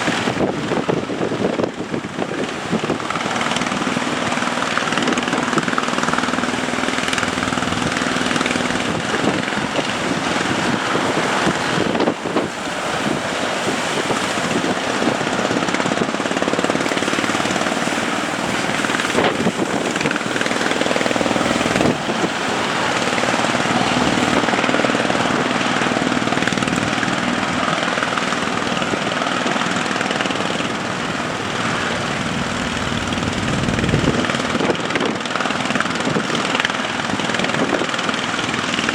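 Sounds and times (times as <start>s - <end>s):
boat engine running: 0.0s - 38.9s
rush of wind and water: 0.0s - 38.9s.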